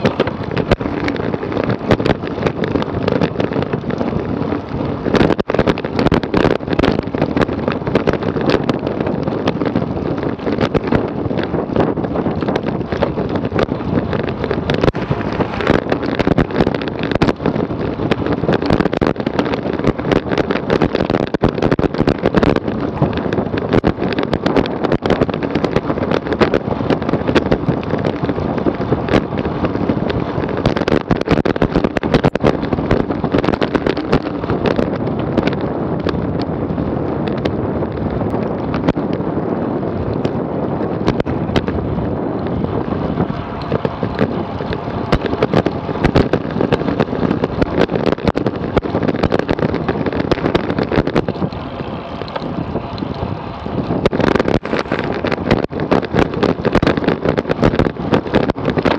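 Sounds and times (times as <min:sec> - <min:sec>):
crackles and knocks from road vibration: 0:00.0 - 0:58.9
wind noise on microphone: 0:00.0 - 0:58.9.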